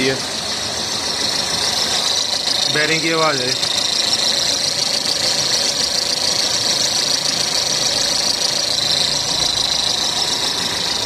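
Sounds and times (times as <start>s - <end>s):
car engine idling: 0.0s - 11.0s
high-pitched pulley whine: 0.0s - 11.0s.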